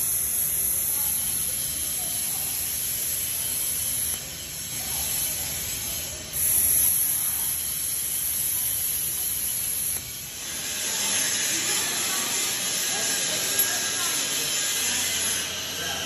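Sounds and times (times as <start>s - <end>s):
welding arc hissing: 0.0s - 16.0s.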